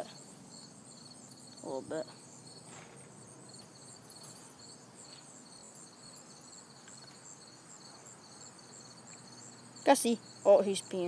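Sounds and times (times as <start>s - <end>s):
background hiss: 0.0s - 11.0s
insect chirping: 0.0s - 11.0s.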